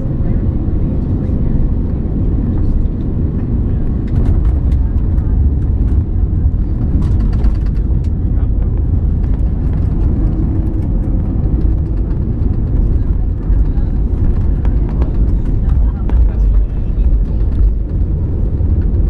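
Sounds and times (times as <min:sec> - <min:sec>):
airliner cabin rumble: 0:00.0 - 0:19.0
light rattles and clicks: 0:02.8 - 0:19.0.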